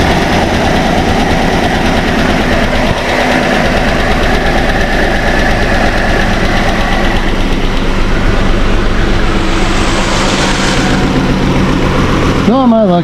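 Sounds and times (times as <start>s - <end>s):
engine idling rough with misfire: 0.0s - 13.0s.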